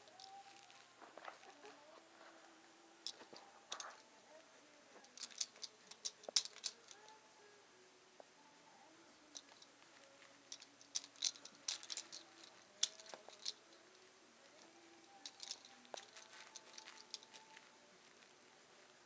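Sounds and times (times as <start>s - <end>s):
soft clicks and rattles of toys: 0.0s - 7.5s, 9.1s - 19.0s.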